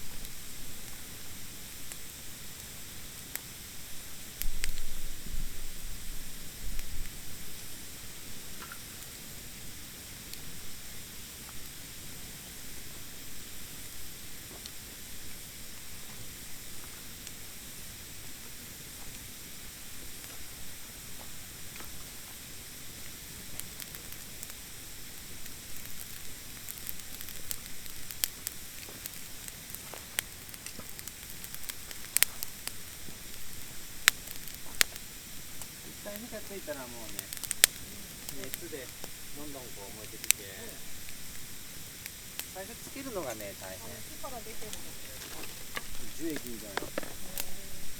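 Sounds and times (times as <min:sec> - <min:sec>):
campfire hissing and popping: 0:00.0 - 0:47.9.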